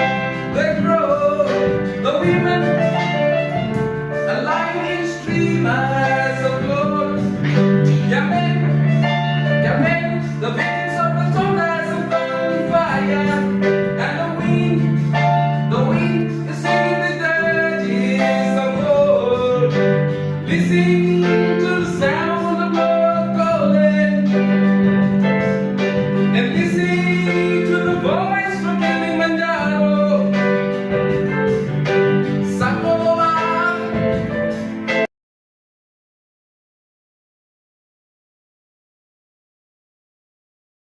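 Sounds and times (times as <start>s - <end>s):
low bass notes: 0.0s - 35.0s
person singing: 0.0s - 35.1s.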